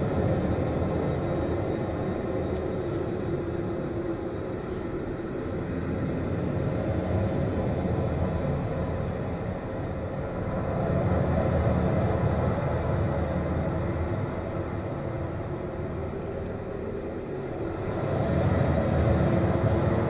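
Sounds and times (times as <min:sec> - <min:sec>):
low rumbling ambient drone: 0:00.0 - 0:20.0.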